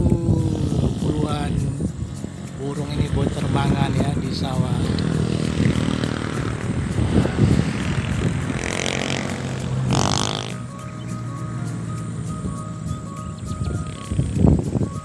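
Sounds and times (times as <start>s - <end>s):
vehicle engine running: 0.0s - 14.7s.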